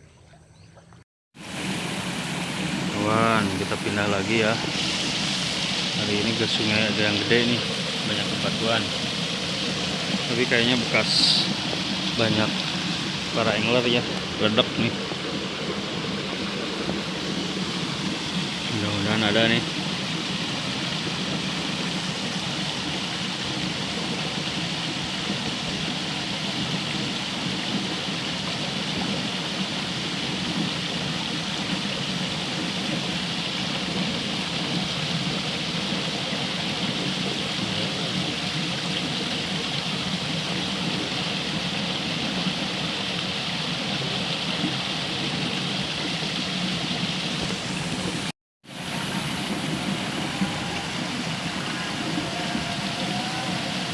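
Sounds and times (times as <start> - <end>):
river water over stones: 1.4 - 53.9.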